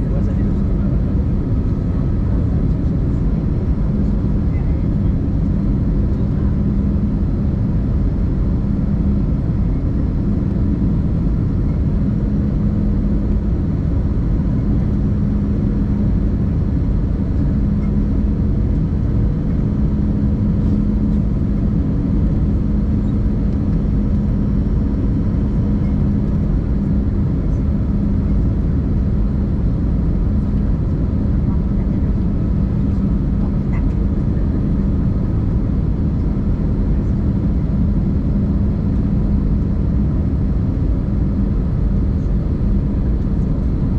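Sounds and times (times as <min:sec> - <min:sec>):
airplane cabin drone: 0:00.0 - 0:43.9.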